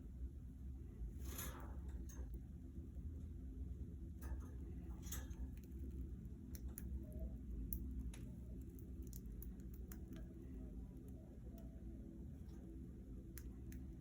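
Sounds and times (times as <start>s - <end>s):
birds clicking and tapping in cage: 1.2s - 14.0s.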